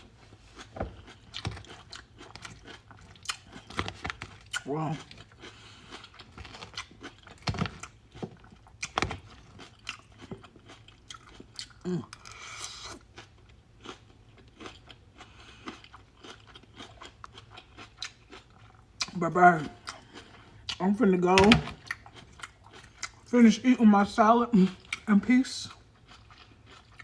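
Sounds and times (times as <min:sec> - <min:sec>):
person chewing crunchy salad: 0:00.0 - 0:23.4, 0:24.5 - 0:27.0.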